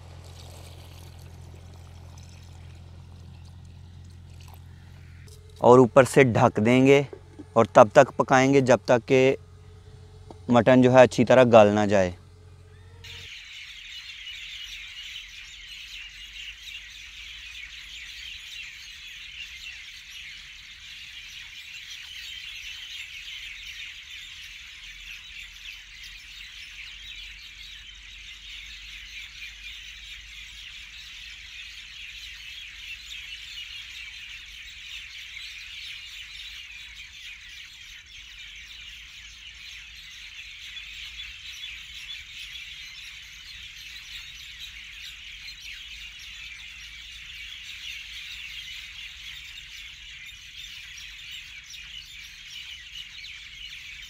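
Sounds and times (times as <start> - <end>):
high-pitched chirping chorus: 4.5 - 54.0.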